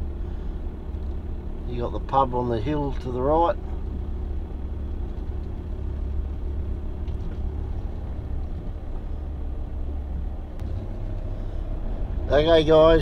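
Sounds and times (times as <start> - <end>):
vehicle engine and tyres rumbling: 0.0 - 13.0.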